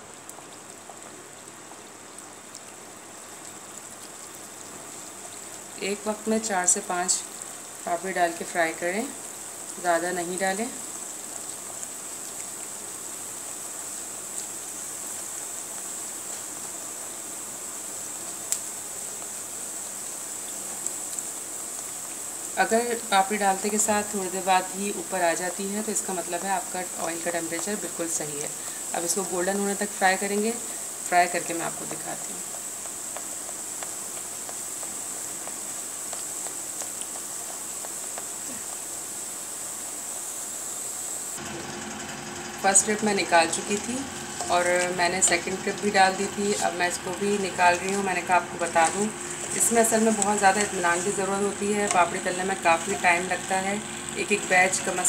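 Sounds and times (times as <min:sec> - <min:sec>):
oil sizzling deep-frying dough: 0:00.0 - 0:55.0
oil crackles and pops: 0:00.2 - 0:17.1, 0:17.8 - 0:40.4, 0:41.3 - 0:55.0.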